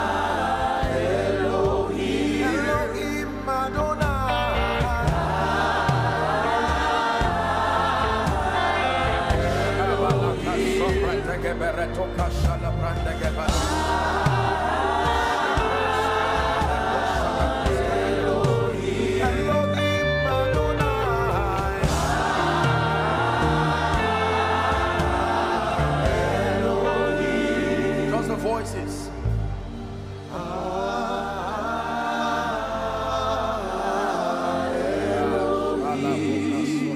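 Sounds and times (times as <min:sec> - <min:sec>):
choir singing: 0:00.0 - 0:36.9
keyboard and bass backing: 0:00.0 - 0:36.9
sustained instrumental chords: 0:00.0 - 0:36.9.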